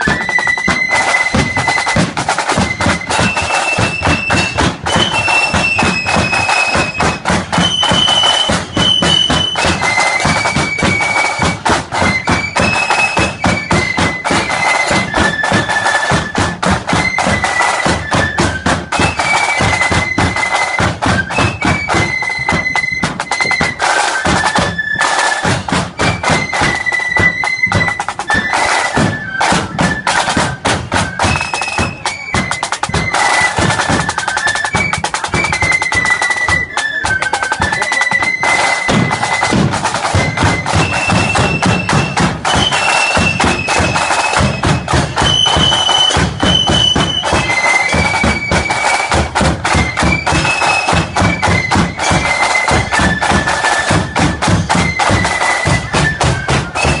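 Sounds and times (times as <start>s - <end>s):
flutes playing in unison: 0.0s - 57.0s
rapid snare drumming: 0.0s - 57.0s.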